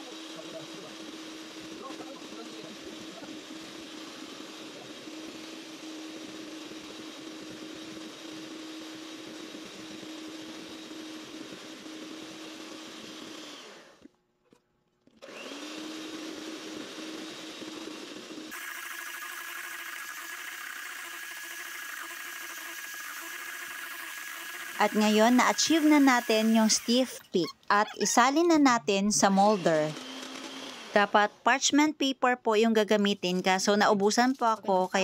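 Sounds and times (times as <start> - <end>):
electric hand mixer whipping: 0.0 - 14.1, 15.2 - 31.3.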